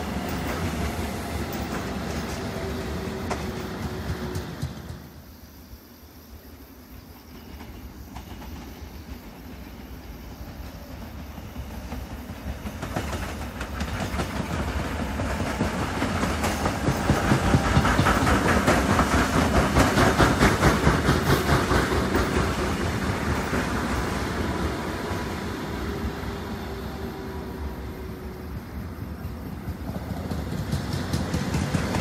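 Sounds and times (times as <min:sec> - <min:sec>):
wheels clacking over rails: 0:00.0 - 0:05.2, 0:07.4 - 0:27.6, 0:29.1 - 0:32.0
electric train passing: 0:00.0 - 0:32.0.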